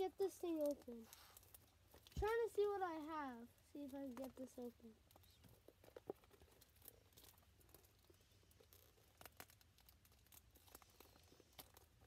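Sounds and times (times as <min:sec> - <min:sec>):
wrapper crinkling: 0:00.0 - 0:12.0.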